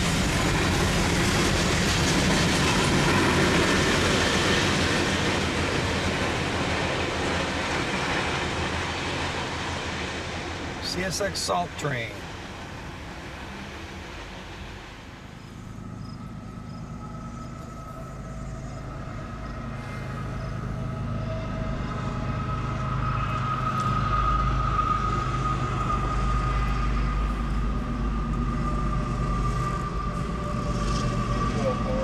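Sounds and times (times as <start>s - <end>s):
diesel locomotive engine rumble: 0.0s - 32.0s
steady high whine: 0.0s - 32.0s.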